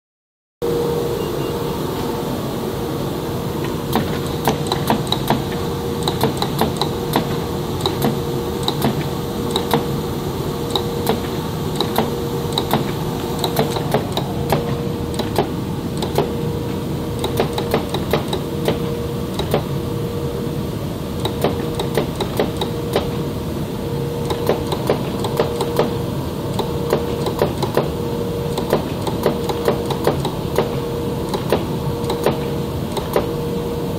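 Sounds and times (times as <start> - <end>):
machine hum: 0.6 - 33.9.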